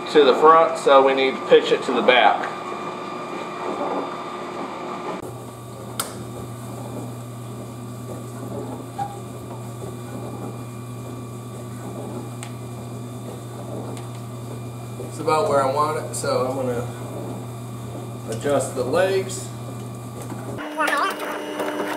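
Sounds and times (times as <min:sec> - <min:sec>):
water circulating in dishwasher: 0:00.0 - 0:20.6
dishwasher pump hum: 0:00.0 - 0:21.9.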